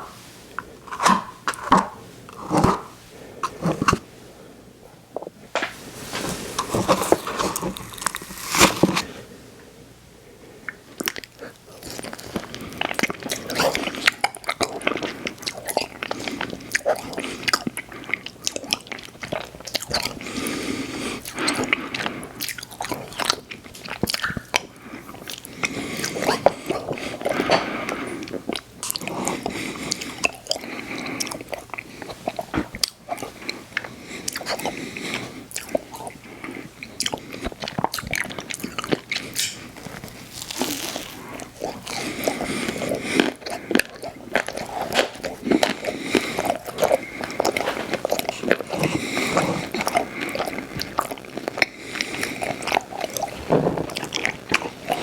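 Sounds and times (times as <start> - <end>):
crunchy chewing and biting: 6.2 - 9.2, 11.0 - 55.0.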